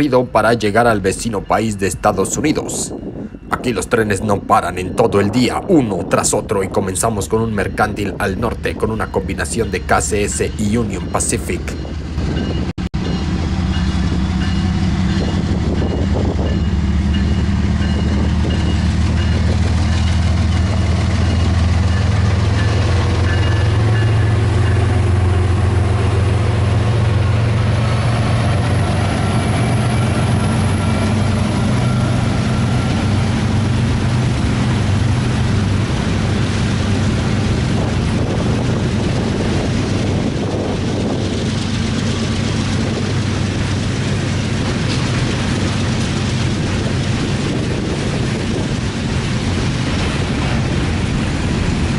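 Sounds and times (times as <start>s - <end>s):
diesel locomotive engines: 0.0s - 51.9s
train cars rolling on rails: 0.0s - 51.9s.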